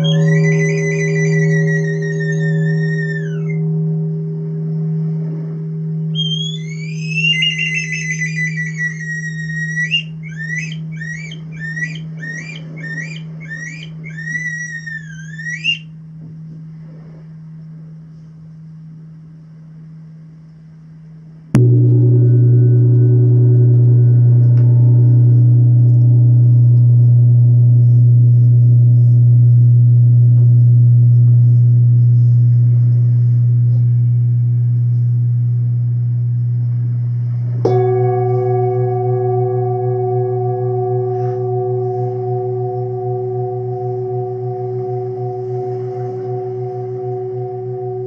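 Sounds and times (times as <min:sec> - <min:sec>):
deep struck metal instrument ringing: 0:00.0 - 0:16.1, 0:21.6 - 0:48.0
higher-pitched singing bowl: 0:00.0 - 0:18.0, 0:21.5 - 0:48.0.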